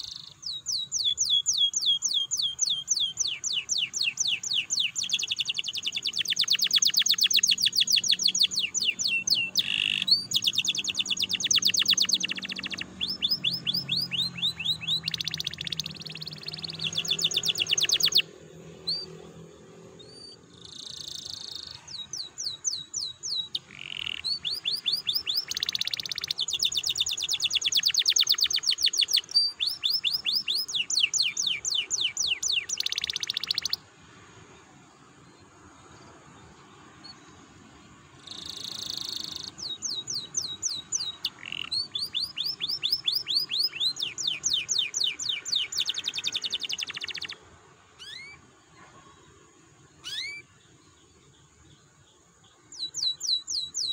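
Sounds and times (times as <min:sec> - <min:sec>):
canary trilling: 0:00.0 - 0:19.3, 0:20.0 - 0:33.8, 0:38.2 - 0:47.4, 0:48.0 - 0:48.4, 0:50.0 - 0:50.4.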